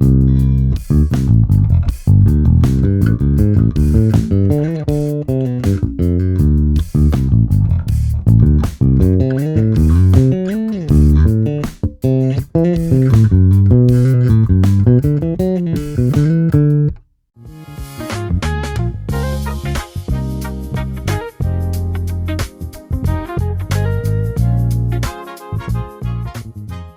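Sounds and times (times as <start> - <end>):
electric bass plucked notes: 0.0 - 17.1, 18.2 - 26.3
music: 0.0 - 26.9.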